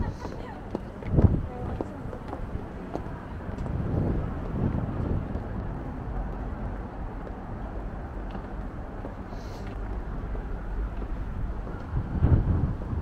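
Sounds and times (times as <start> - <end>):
urban background rumble: 0.0 - 13.0.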